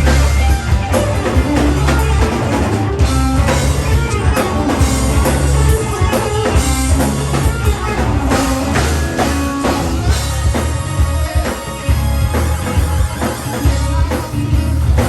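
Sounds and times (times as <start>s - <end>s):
bass guitar: 0.0s - 15.0s
drum kit beat: 0.0s - 15.0s
electric guitar: 0.0s - 15.0s.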